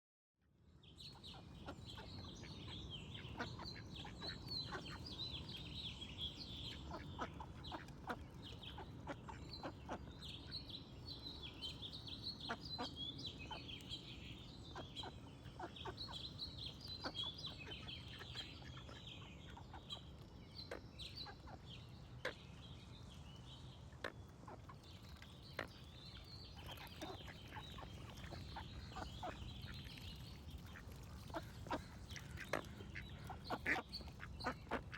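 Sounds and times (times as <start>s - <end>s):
small birds chirping: 0.9s - 34.9s.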